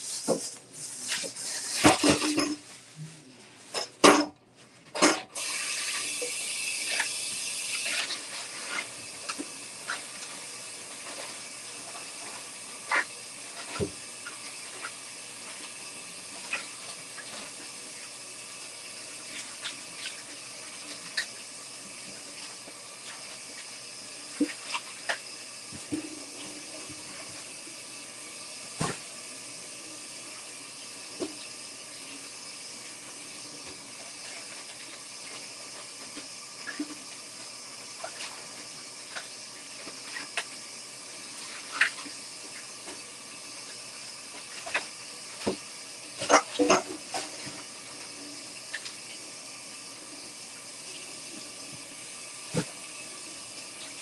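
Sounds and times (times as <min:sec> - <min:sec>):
kitchen tap running into sink: 0:00.0 - 0:02.6, 0:04.9 - 0:54.0.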